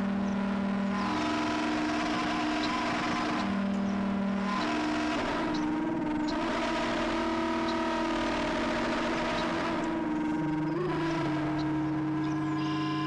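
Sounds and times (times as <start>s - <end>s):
electronic drone music: 0.0s - 13.0s.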